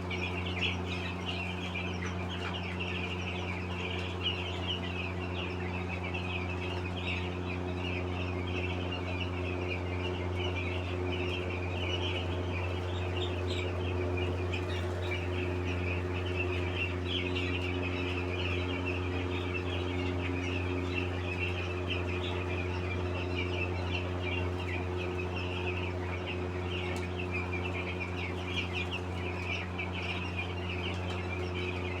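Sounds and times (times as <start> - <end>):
flock of chickens calling: 0.0 - 32.0.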